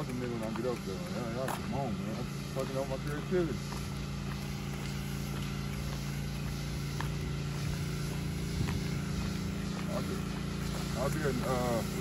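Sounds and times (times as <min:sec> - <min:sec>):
footsteps on concrete: 0:00.0 - 0:12.0
low mechanical hum: 0:00.0 - 0:12.0.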